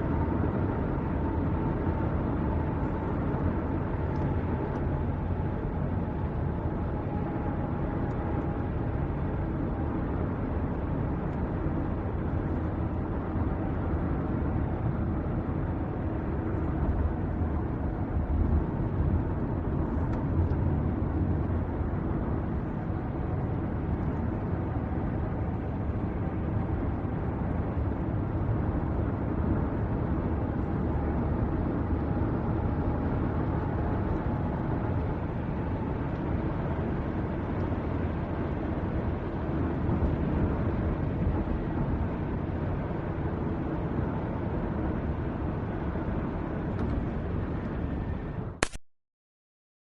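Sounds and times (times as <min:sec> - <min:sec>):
car engine and road rumble: 0:00.0 - 0:48.8.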